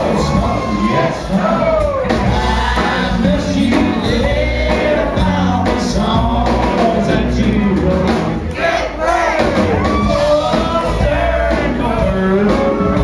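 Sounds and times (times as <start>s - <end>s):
man singing: 0.0s - 8.4s, 10.0s - 13.0s
live country band playing: 0.0s - 13.0s.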